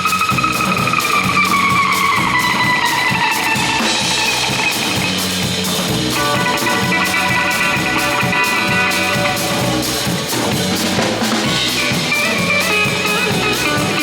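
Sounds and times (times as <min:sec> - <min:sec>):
live cumbia band playing: 0:00.0 - 0:14.0
steady drum beat: 0:00.0 - 0:14.0.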